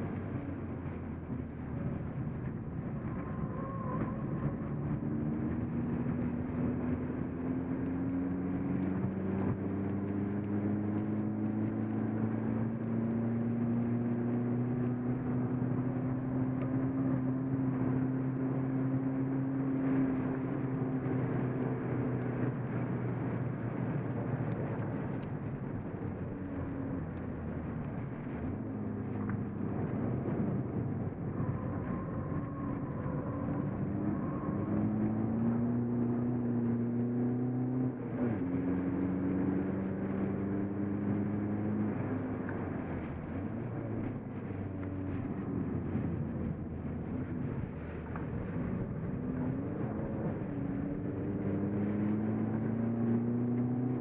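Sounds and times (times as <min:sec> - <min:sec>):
car engine accelerating through gears: 0:00.0 - 0:54.0
road noise: 0:00.0 - 0:54.0.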